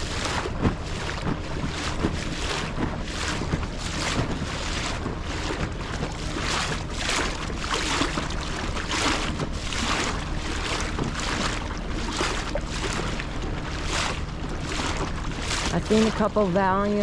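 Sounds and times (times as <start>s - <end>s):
hull swishing through waves: 0.0s - 17.0s
outboard motor humming: 0.0s - 17.0s.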